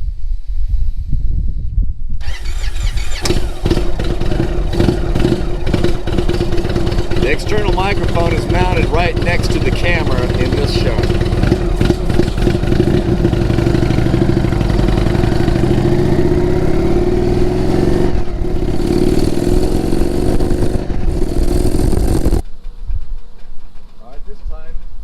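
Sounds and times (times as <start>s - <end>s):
motorcycle engine accelerating: 2.2s - 22.4s.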